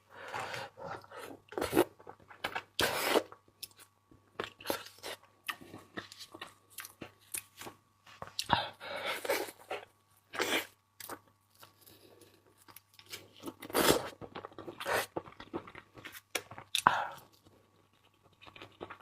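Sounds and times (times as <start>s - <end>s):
chewing and crunching seafood: 0.4s - 19.0s.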